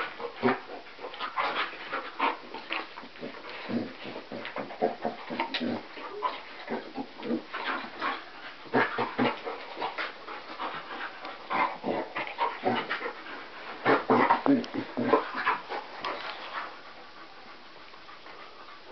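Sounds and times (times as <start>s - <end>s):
dogs grunting: 0.0s - 18.9s
dogs panting: 0.0s - 18.9s.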